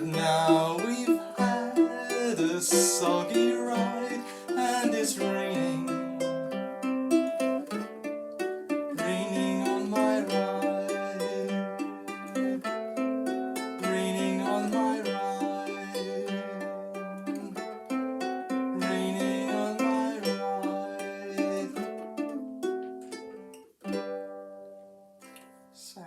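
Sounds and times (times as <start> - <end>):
plucked string instrument chords: 0.0 - 25.1.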